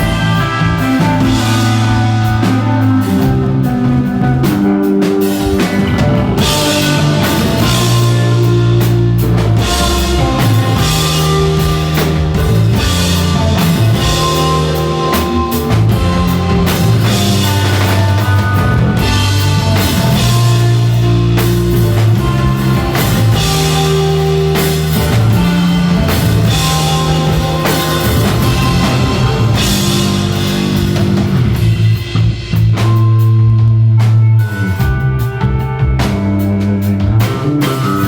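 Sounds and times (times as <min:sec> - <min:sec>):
bass guitar: 0:00.0 - 0:38.0
drum kit: 0:00.0 - 0:38.0
electric guitar: 0:00.0 - 0:38.0.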